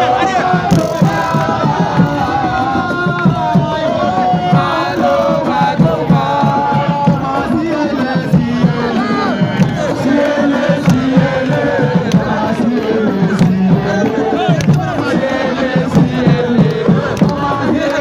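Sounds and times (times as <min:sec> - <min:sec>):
crowd chanting and singing: 0:00.0 - 0:18.0
fast drum beat: 0:00.0 - 0:18.0.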